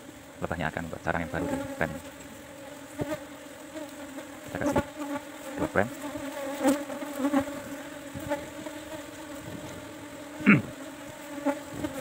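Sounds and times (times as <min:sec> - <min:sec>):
bee colony humming: 0:00.0 - 0:12.0.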